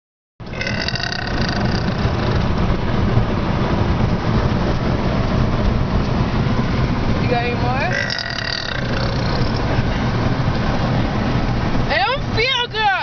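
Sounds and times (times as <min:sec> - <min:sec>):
car engine and road noise: 0:00.4 - 0:13.0.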